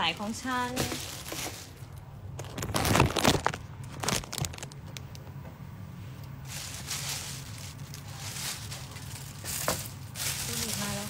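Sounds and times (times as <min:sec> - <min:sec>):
plastic bags crinkling: 0:00.6 - 0:05.3, 0:06.4 - 0:11.0.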